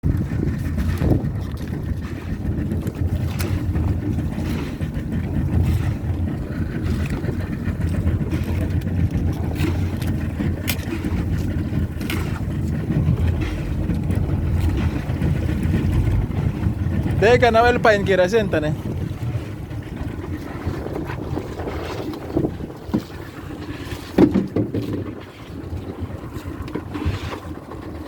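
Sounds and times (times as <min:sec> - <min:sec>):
outboard engine running: 0:00.0 - 0:28.0
wind buffeting microphone: 0:00.0 - 0:28.0.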